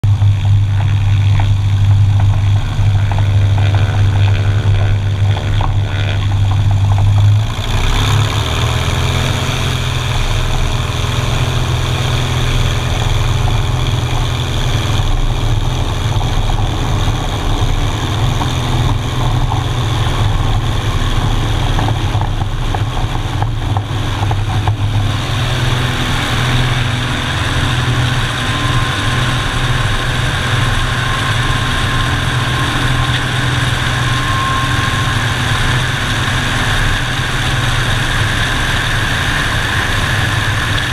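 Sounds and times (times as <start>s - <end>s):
airplane engine and propeller: 0.0s - 40.9s.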